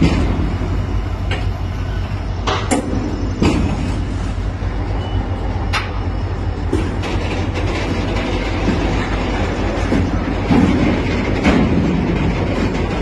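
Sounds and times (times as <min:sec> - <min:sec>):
sharp knocks of train wagons: 0:00.0 - 0:01.6, 0:02.4 - 0:04.1, 0:05.7 - 0:13.0
freight train rumbling past: 0:00.0 - 0:13.0.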